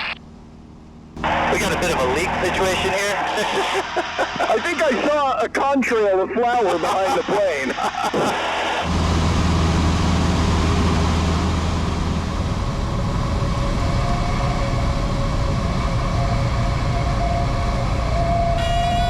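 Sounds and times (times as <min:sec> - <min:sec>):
propeller aircraft engine droning: 0:00.0 - 0:19.0.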